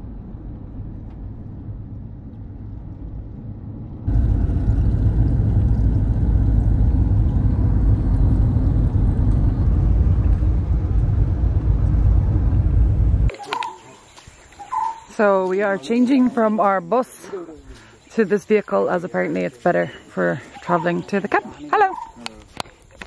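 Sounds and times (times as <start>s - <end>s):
road rumble and engine noise: 0.0s - 23.0s.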